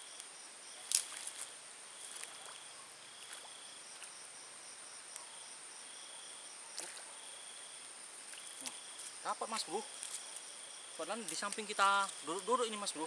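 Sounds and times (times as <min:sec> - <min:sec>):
high-pitched insect trill: 0:00.0 - 0:13.0
lower insect call: 0:00.0 - 0:13.0.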